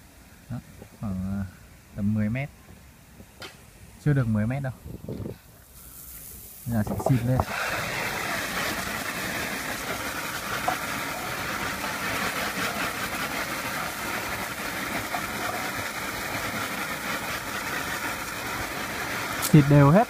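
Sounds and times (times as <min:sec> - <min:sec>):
hose water spraying on foliage: 0:00.0 - 0:20.0.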